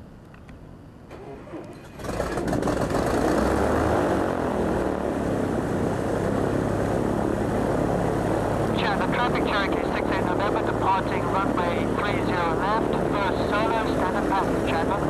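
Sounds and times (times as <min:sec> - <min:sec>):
aircraft piston engine starting: 0:01.1 - 0:15.0.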